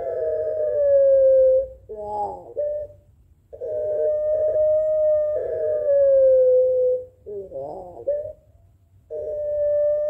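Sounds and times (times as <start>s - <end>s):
dove howl-like call: 0.0s - 10.0s.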